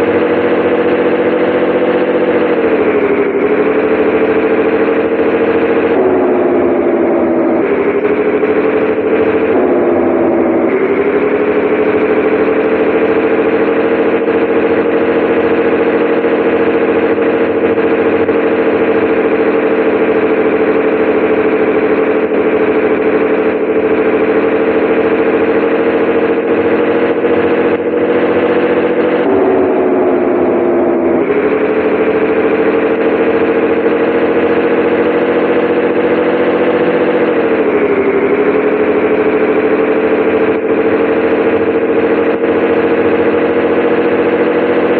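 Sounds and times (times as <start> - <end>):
diesel truck engine drone: 0.0 - 44.9.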